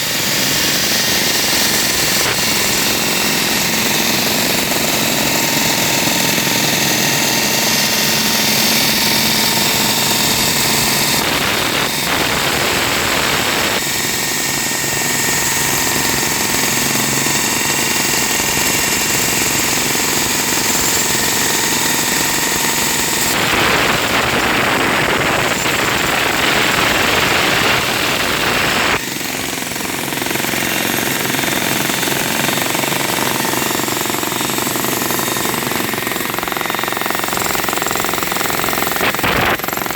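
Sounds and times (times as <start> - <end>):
concrete breaker hammering: 0.0 - 39.9.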